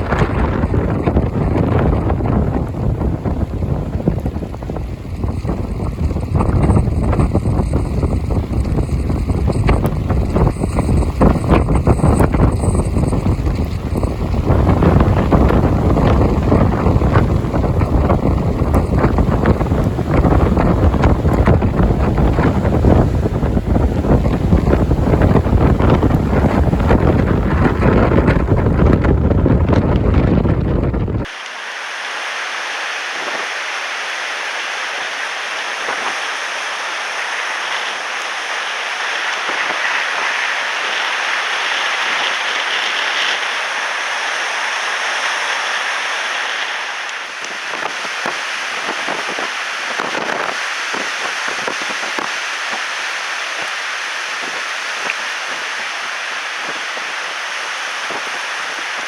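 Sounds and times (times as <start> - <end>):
wind buffeting microphone: 0.0 - 31.4, 35.7 - 59.0
rushing wind and waves: 0.0 - 59.0.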